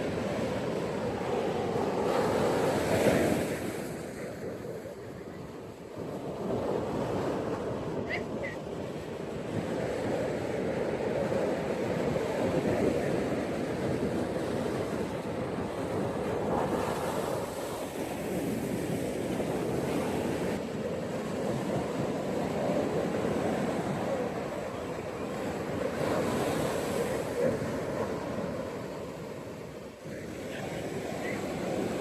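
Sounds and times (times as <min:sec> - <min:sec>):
ocean surf washing onto beach: 0:00.0 - 0:32.0.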